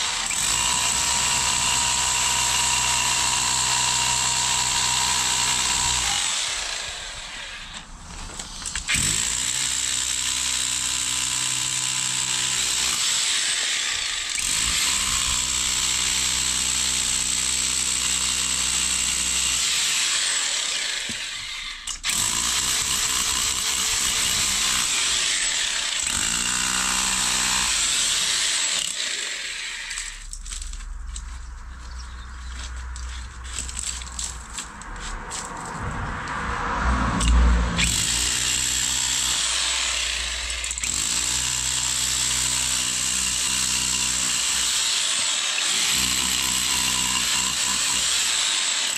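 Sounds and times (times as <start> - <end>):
rotary hammer chiselling concrete: 0.0 - 6.9, 8.4 - 30.5, 37.8 - 48.9.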